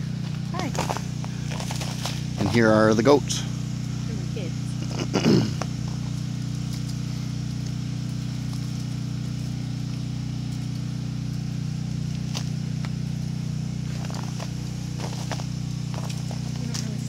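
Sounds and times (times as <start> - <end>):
generator engine humming: 0.0 - 17.0.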